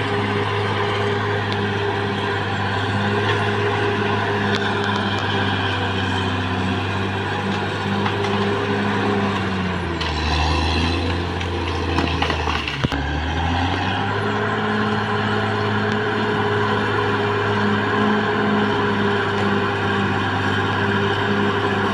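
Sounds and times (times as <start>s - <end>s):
bulldozer diesel engine running: 0.0s - 21.9s.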